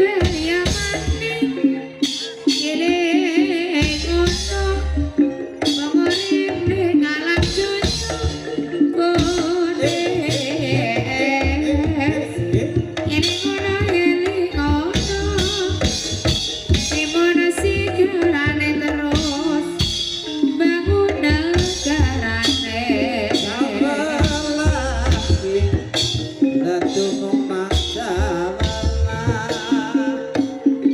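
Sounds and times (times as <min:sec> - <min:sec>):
hand drums playing dense rhythm: 0:00.0 - 0:30.9
melodic ensemble: 0:00.0 - 0:30.9
person singing wavering melody: 0:00.0 - 0:30.9.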